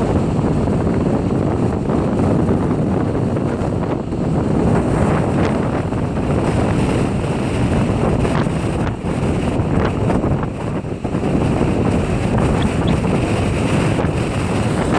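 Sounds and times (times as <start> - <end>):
strong wind buffeting microphone: 0.0 - 14.9.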